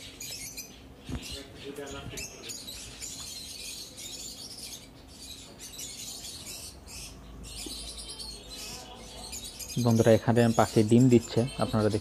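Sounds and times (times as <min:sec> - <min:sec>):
lovebirds chattering and chirping: 0:00.0 - 0:12.0.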